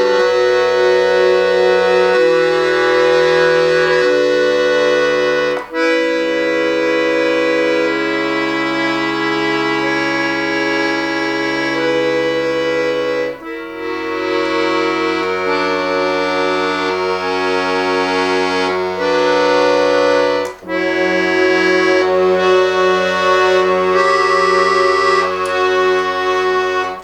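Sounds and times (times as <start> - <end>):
button accordion playing chords: 0.0 - 27.0.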